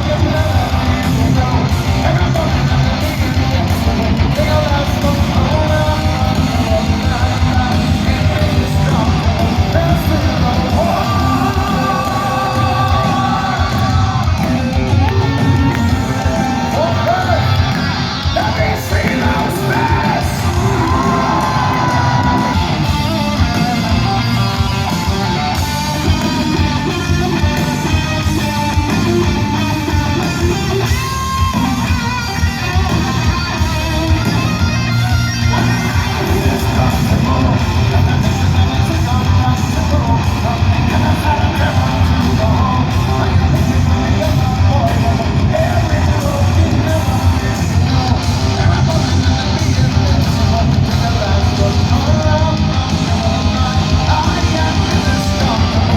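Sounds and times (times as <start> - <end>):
heavy metal band playing: 0.0 - 55.9
strummed electric guitar: 0.0 - 55.9.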